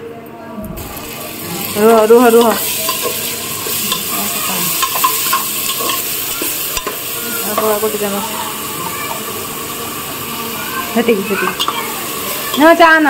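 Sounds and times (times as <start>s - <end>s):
oil sizzling: 0.6s - 13.0s.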